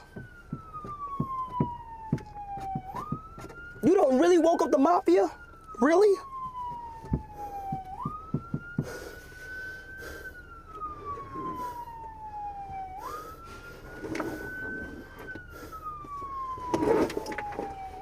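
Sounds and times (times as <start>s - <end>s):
police siren wailing: 0.0s - 18.0s.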